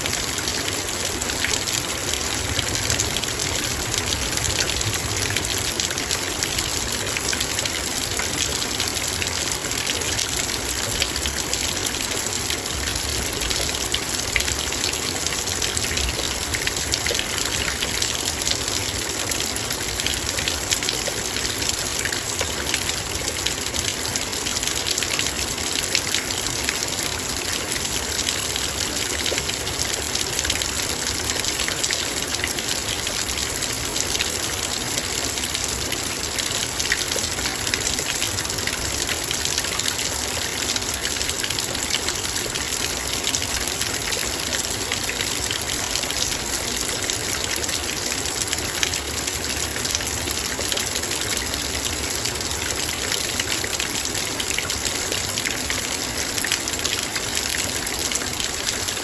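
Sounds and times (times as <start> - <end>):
rain pattering on metal bowl: 0.0 - 59.0.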